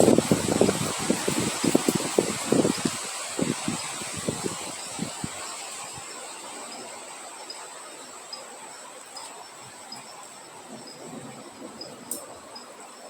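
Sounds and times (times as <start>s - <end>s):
wind gusts buffeting: 0.0s - 7.3s, 9.6s - 13.0s
insect trill: 0.0s - 13.0s
wind hissing: 0.0s - 13.0s.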